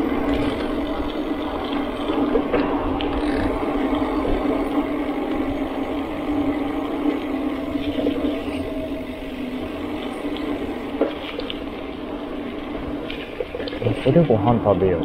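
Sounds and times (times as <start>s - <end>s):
low mechanical hum: 0.0s - 15.0s
rushing background noise: 0.0s - 15.0s.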